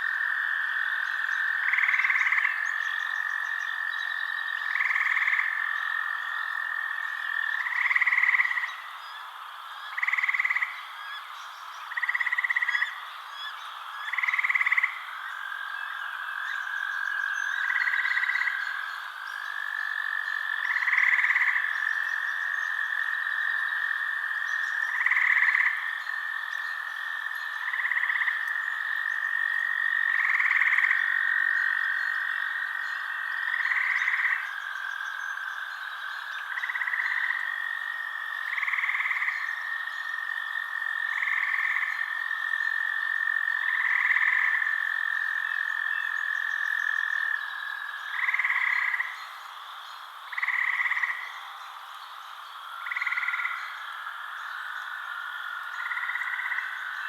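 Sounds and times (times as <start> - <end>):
frogs croaking: 0.0 - 57.0.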